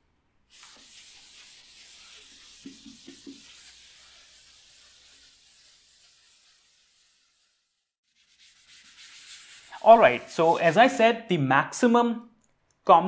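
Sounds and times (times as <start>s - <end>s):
duster rubbing on chalkboard: 0.5s - 11.0s.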